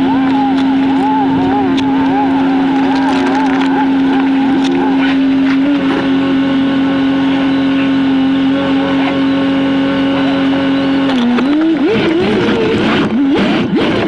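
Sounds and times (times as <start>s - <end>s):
high engine whine: 0.0s - 14.0s.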